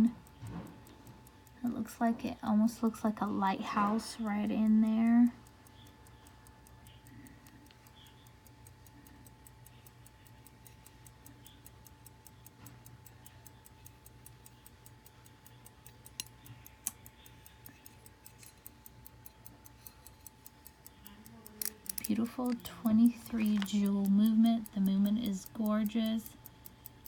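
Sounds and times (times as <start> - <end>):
pocket watch ticking: 0.0 - 27.0.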